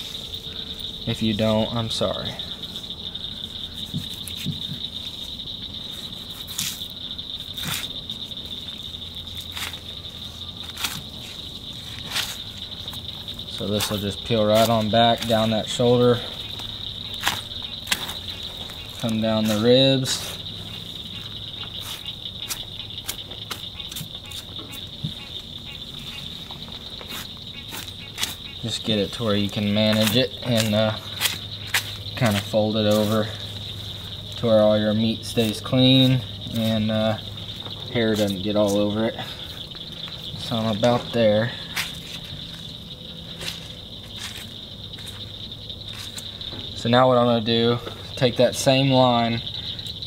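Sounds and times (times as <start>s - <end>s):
crickets chirring: 0.0s - 50.0s.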